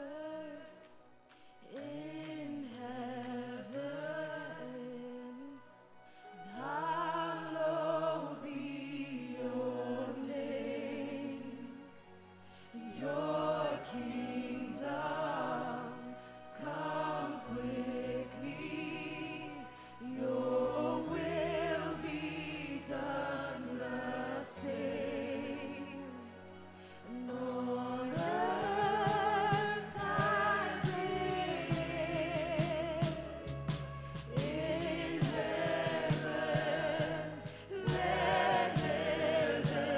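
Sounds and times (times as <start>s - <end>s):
singers with wavering vibrato: 0.0s - 39.9s.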